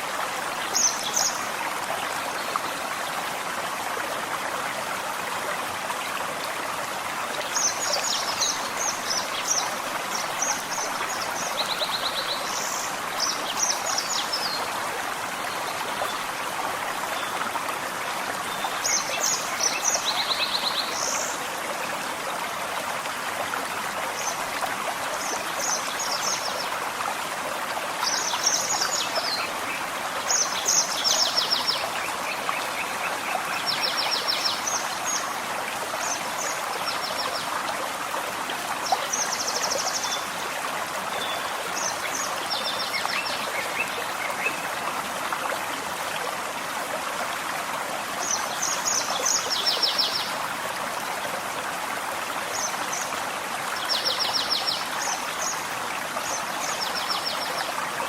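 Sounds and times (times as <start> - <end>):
forest stream flowing: 0.0 - 58.0.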